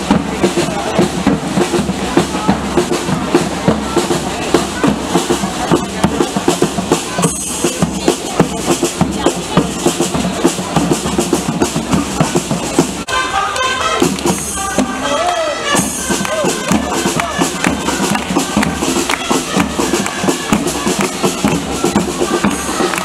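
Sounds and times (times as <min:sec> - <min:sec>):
instruments playing along: 0:00.0 - 0:23.0
parade drums beating: 0:00.0 - 0:23.0.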